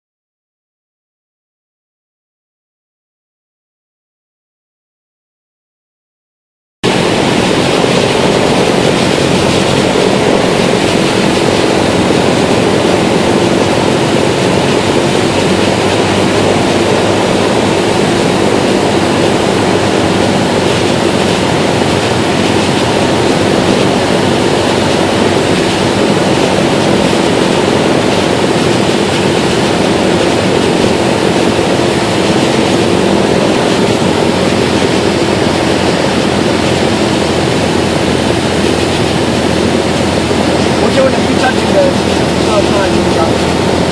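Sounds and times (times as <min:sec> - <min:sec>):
propeller plane engine running: 0:06.8 - 0:43.9
rushing airflow: 0:06.8 - 0:43.9.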